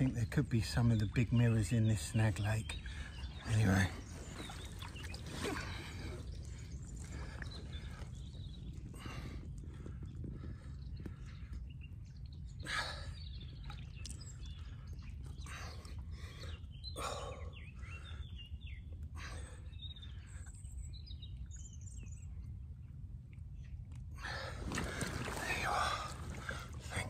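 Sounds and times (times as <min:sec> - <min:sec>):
birds chirping: 0:00.0 - 0:27.0
steady low rumble: 0:00.0 - 0:27.0.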